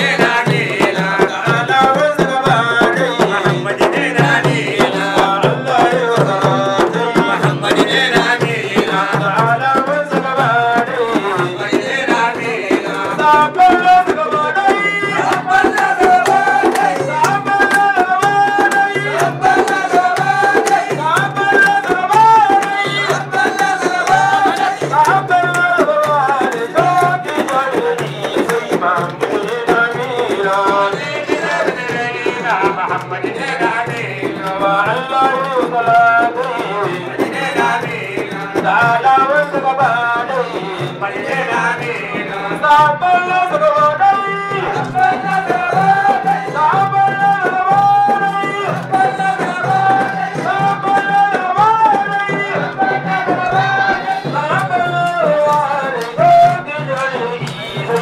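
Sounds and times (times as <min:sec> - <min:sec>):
frame drums beating: 0:00.0 - 0:58.0
voices singing: 0:00.0 - 0:58.0.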